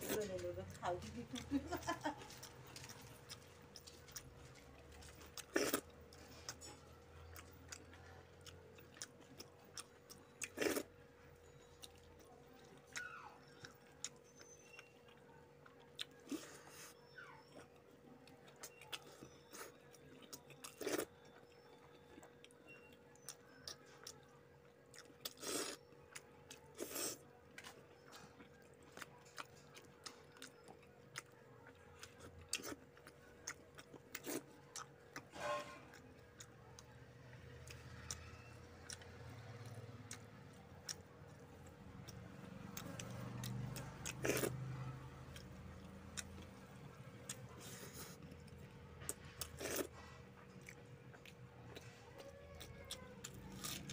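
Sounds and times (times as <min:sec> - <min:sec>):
chewing and lip smacks: 0:00.3 - 0:35.3, 0:35.9 - 0:53.9.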